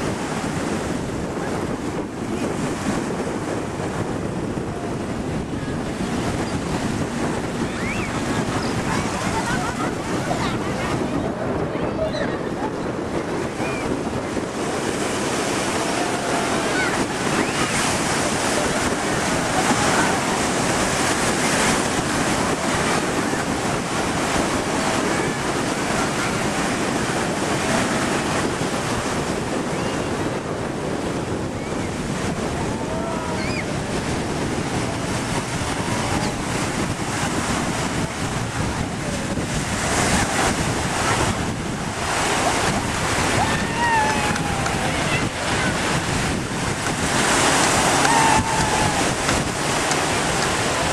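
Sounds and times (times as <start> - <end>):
faint jet ski engine: 0.0 - 50.9
sea waves washing: 0.0 - 50.9
wind buffeting microphone: 0.0 - 50.9.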